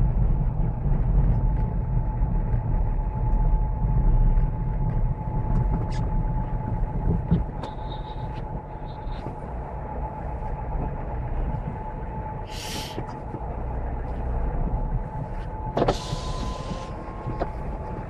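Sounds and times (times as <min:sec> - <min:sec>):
engine and tyres rumbling: 0:00.0 - 0:18.0.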